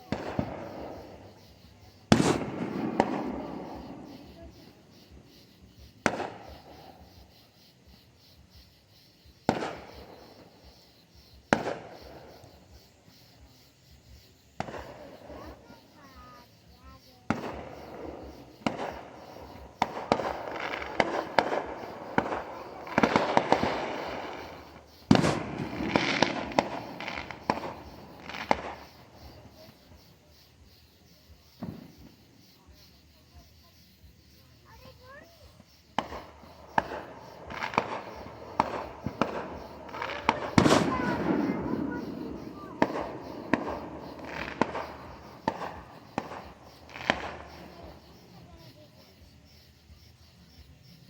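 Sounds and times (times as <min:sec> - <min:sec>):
fireworks cracking and popping: 0:00.0 - 0:50.8.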